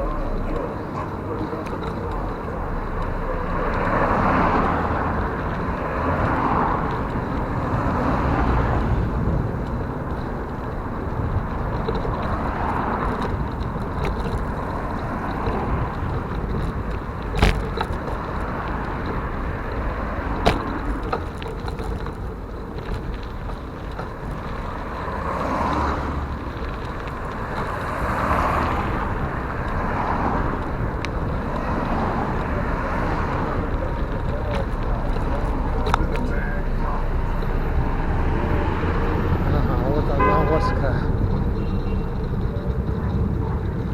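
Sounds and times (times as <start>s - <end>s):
cars passing: 0.0s - 43.9s
road noise: 0.0s - 43.9s.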